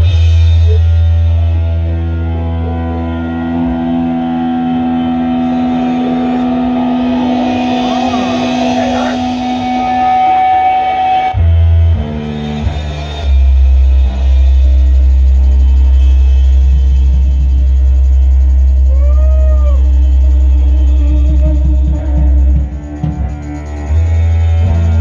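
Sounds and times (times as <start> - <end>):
live band playing fuzz rock: 0.0 - 25.0.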